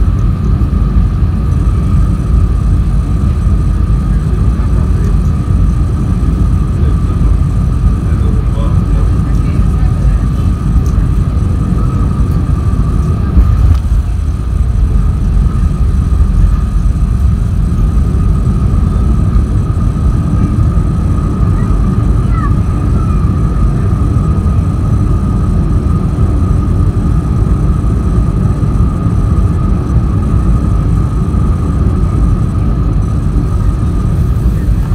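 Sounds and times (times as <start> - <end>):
rumble of wheels and engines: 0.0 - 34.9
thin steady whine: 0.0 - 34.9.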